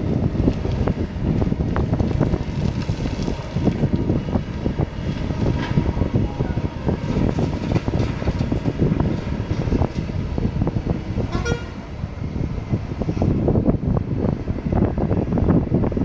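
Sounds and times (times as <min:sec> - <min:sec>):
excavator diesel engine running: 0:00.0 - 0:16.0
wind buffeting microphone: 0:00.0 - 0:16.0.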